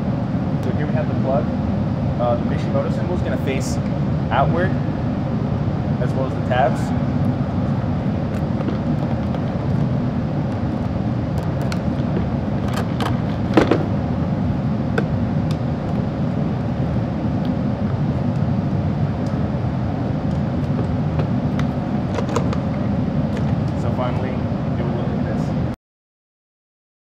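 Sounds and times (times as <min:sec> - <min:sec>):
low background rumble: 0:00.0 - 0:25.8.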